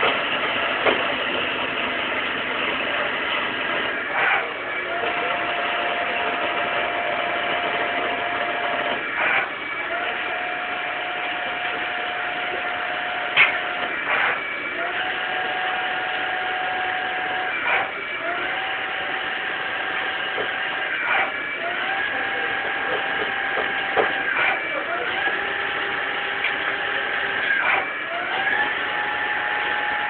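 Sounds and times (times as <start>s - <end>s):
lathe machine whine: 0.0s - 30.0s.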